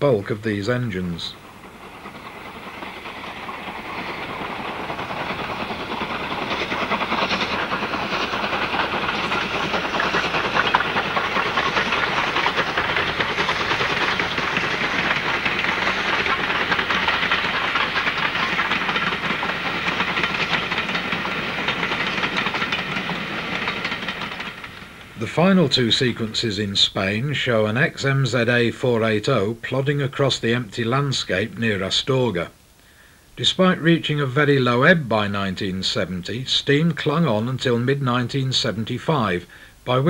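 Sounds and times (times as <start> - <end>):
train clattering on rails: 0.0 - 32.5
steam locomotive exhaust beats: 0.0 - 40.0.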